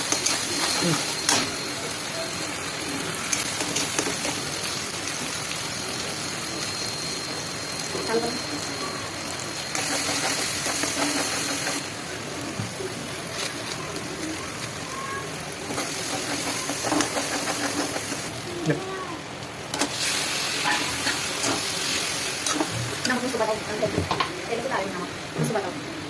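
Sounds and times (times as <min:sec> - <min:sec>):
chicken sizzling in a pan: 0:00.0 - 0:24.9.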